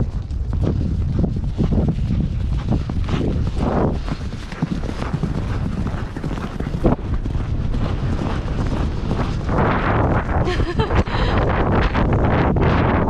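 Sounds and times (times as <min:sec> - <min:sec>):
horse hoofbeats on a trail: 0:00.0 - 0:13.0
wind rumbling on microphone: 0:00.0 - 0:13.0.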